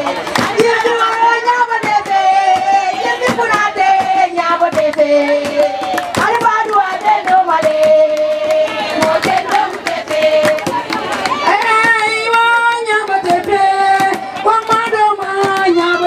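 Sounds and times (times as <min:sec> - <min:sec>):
hand claps: 0:00.0 - 0:16.0
women singing call-and-response: 0:00.0 - 0:16.0.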